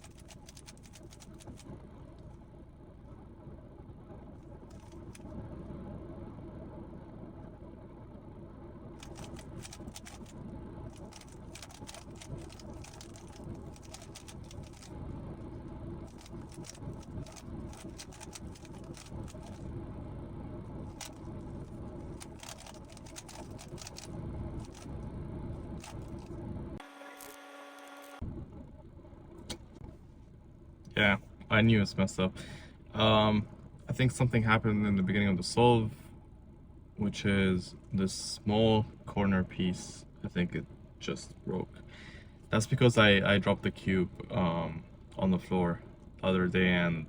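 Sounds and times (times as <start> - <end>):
steady low rumble: 0.0 - 26.8, 28.2 - 47.0.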